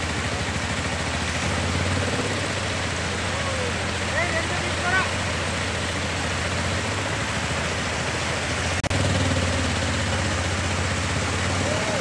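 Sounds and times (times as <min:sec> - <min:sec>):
auto-rickshaw engine running: 0:00.0 - 0:12.0
floodwater rushing: 0:00.0 - 0:12.0.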